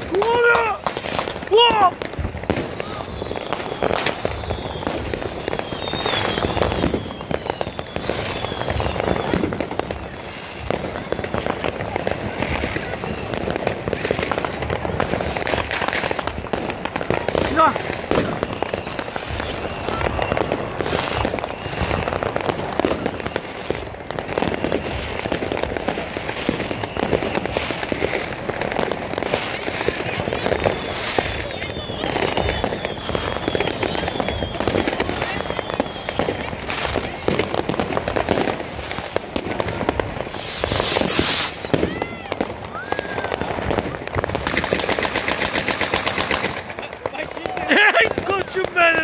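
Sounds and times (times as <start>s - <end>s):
firecrackers crackling: 0.0s - 49.0s
whistling rockets: 0.0s - 49.0s.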